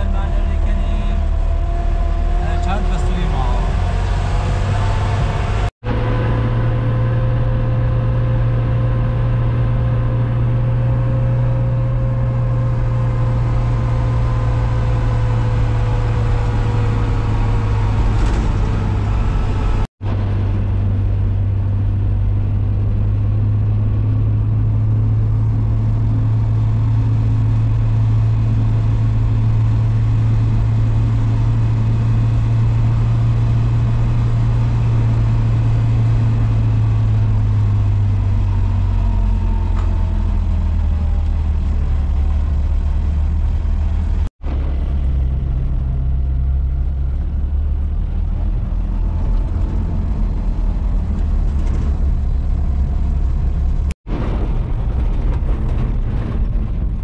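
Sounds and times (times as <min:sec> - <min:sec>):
vehicle engine and road drone: 0:00.0 - 0:57.0.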